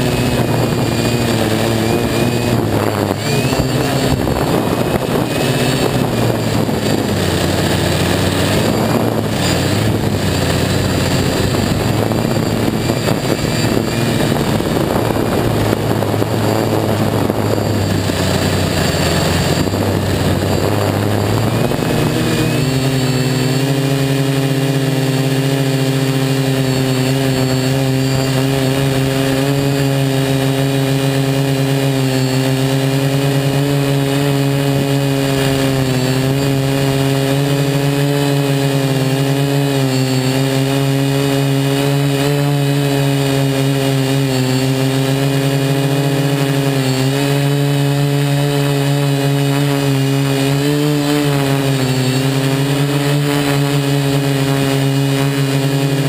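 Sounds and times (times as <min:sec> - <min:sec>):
drone motors buzzing: 0:00.0 - 0:56.0.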